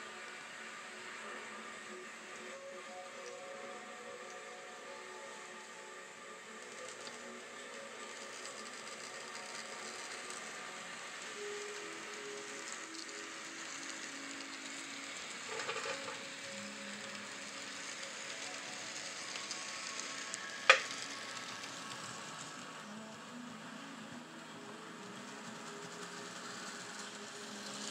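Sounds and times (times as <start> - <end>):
model train wheels and motors: 0.0 - 27.9.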